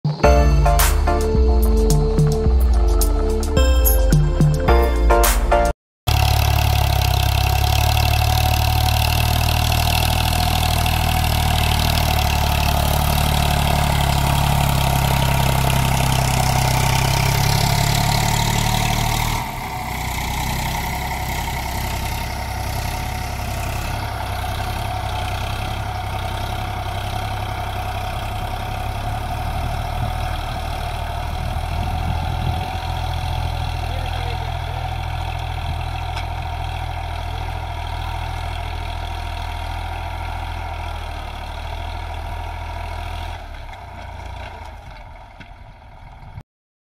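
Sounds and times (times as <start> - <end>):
tractor diesel engine running: 0.0 - 5.3, 6.1 - 46.4.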